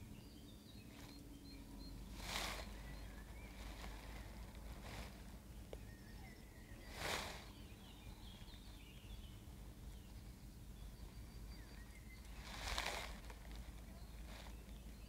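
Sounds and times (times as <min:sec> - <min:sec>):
faint birdsong chirps and trills: 0:00.0 - 0:15.0
low steady outdoor rumble: 0:00.0 - 0:15.0.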